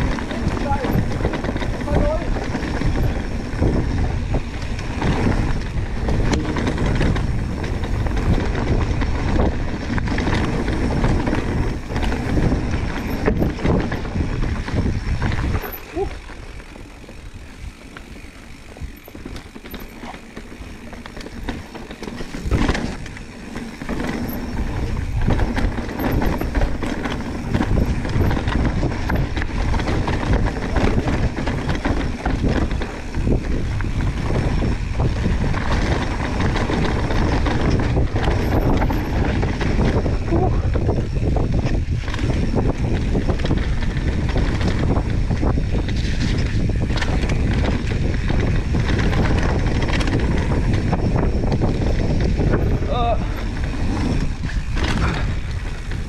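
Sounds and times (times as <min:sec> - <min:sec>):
bike rattling over rough ground: 0:00.0 - 0:56.0
bike tyre roar: 0:00.0 - 0:56.0
wind on microphone: 0:00.0 - 0:56.0.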